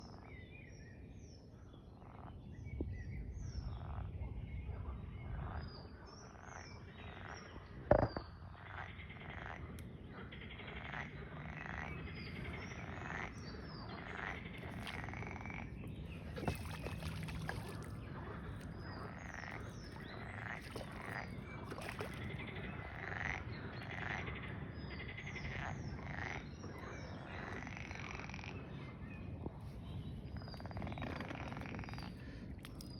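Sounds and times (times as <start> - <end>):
frogs croaking: 0.0 - 32.9
small birds chirping: 4.8 - 32.9.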